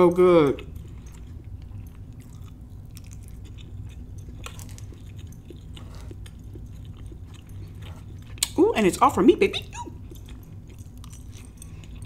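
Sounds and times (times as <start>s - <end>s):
person chewing: 0.2s - 12.0s.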